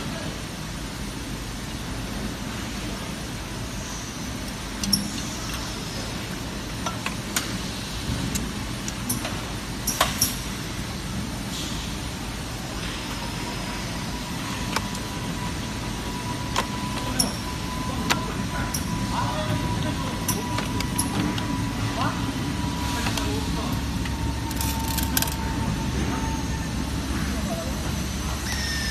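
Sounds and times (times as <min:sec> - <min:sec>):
factory machinery hum: 0:00.0 - 0:28.9.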